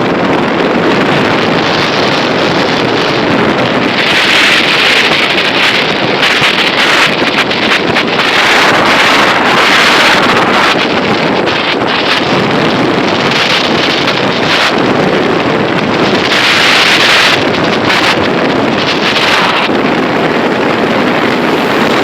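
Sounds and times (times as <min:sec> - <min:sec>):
loud rushing noise: 0:00.0 - 0:22.0.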